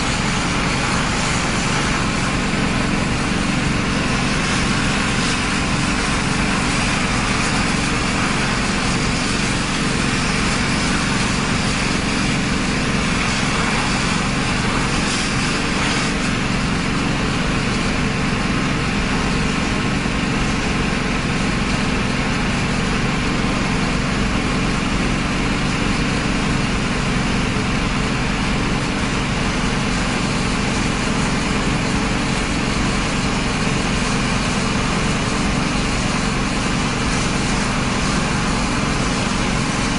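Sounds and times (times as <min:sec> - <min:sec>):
engine running steadily: 0:00.0 - 0:39.9
fire hose water jet hissing: 0:00.0 - 0:39.9.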